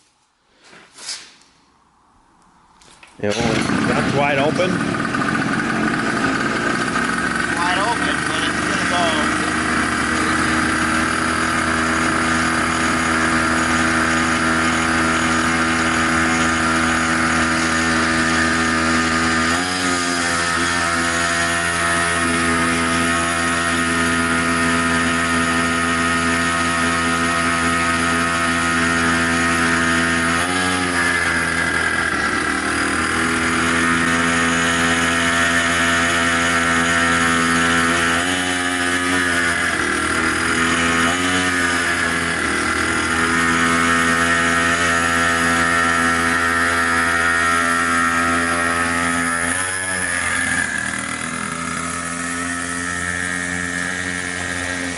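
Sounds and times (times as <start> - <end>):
small two-stroke engine buzzing: 3.2 - 54.9.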